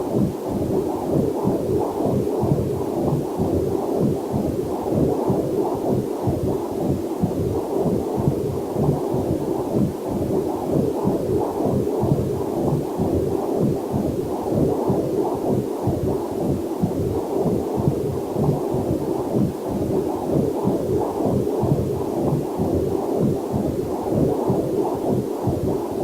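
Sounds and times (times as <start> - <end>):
whooshing fetal heartbeat: 0.0 - 26.0.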